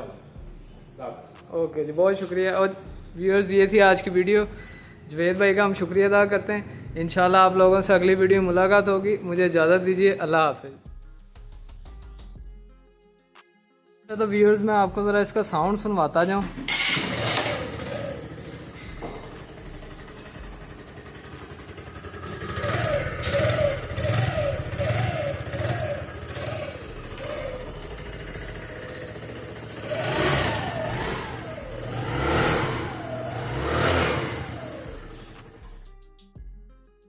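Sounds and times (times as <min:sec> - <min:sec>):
motorcycle engine idling and revving: 0:00.0 - 0:01.0, 0:02.2 - 0:10.2, 0:14.6 - 0:36.3.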